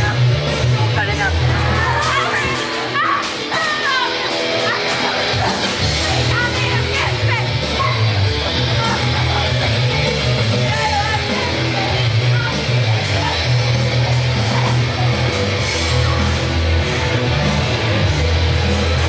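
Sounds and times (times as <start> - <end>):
heavy rock music with guitar: 0.0 - 19.0.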